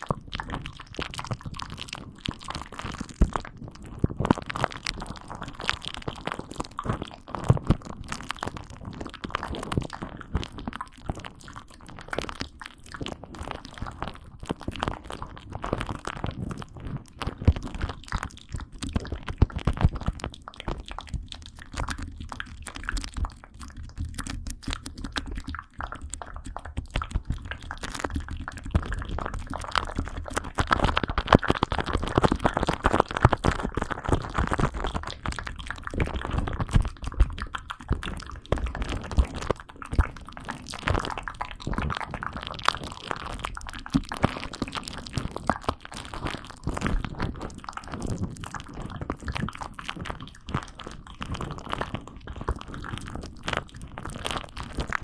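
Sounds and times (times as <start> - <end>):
fine crackling and clicking: 0.0 - 55.0.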